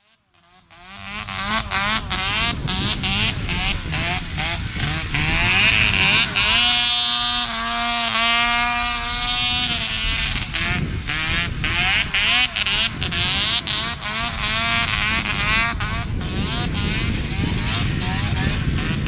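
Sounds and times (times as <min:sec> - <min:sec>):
snowmobile engines revving: 0:00.0 - 0:19.0.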